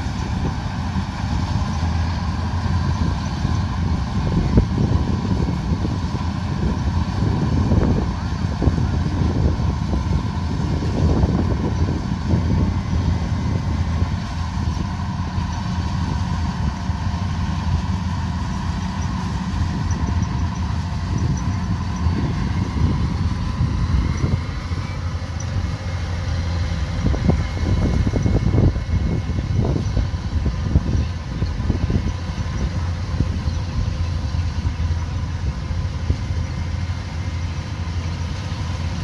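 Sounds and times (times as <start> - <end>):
combine harvester engine drone: 0.0 - 39.0
machinery whine: 0.0 - 39.0.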